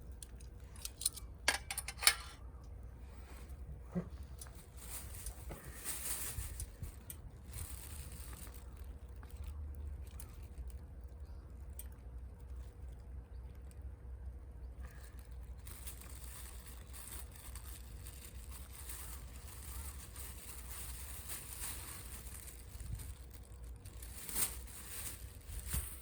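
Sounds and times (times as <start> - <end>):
low rumble of stove: 0.0 - 26.0.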